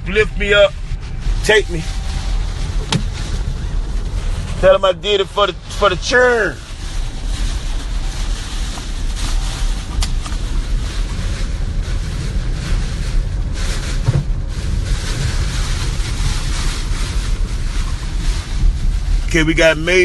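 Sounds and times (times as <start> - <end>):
car driving rumble: 0.0 - 20.0
wind gusting against microphone: 0.0 - 20.0.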